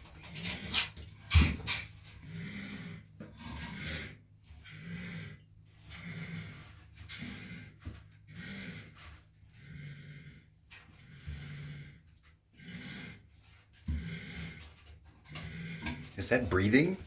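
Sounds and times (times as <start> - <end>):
animal snoring-like breaths: 0.0 - 17.0.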